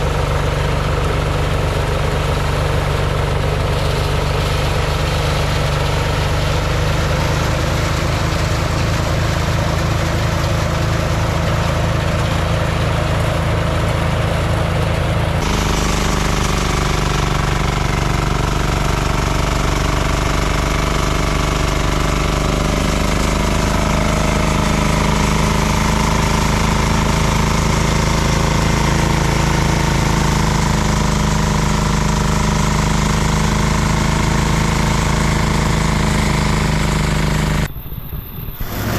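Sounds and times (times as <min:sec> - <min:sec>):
small engine chugging: 0:00.0 - 0:38.9.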